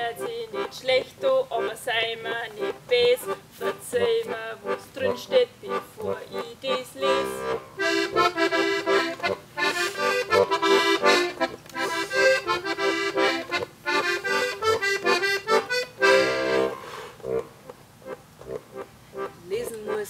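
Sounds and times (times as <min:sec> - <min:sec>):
button accordion playing: 0:00.0 - 0:20.0.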